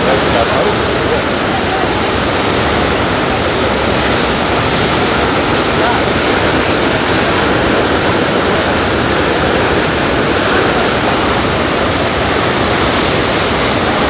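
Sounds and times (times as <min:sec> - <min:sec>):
waterfall thundering over rocks: 0:00.0 - 0:14.0.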